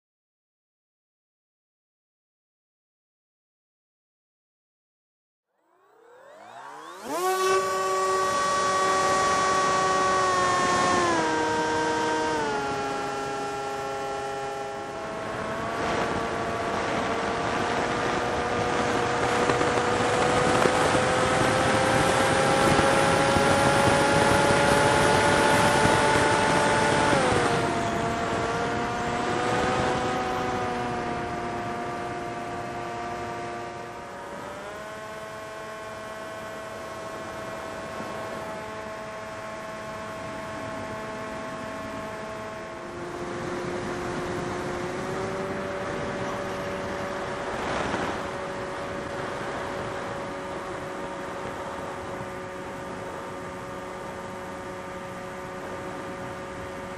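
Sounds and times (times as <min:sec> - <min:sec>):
drone motors whining: 0:05.5 - 0:54.3.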